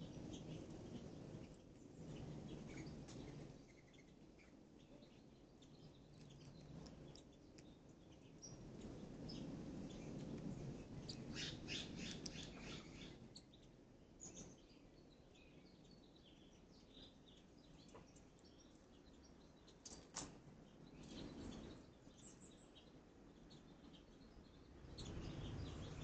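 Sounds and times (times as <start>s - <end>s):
faint bird chirps: 0.0s - 10.2s, 10.9s - 26.0s.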